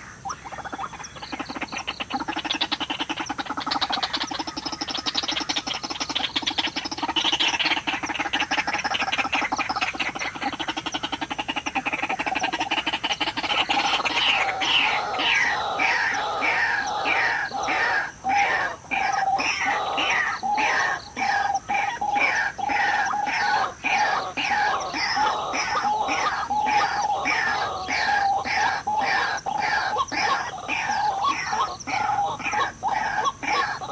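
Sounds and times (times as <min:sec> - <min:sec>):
waterhen calling: 0:00.0 - 0:33.9.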